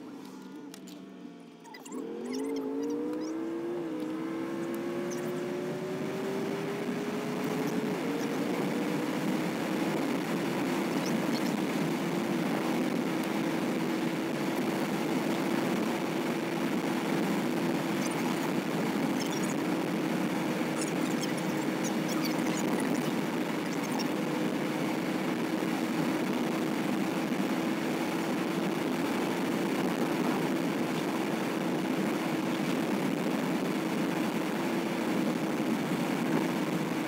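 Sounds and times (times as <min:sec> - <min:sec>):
vehicle cabin road noise: 0:00.0 - 0:37.0.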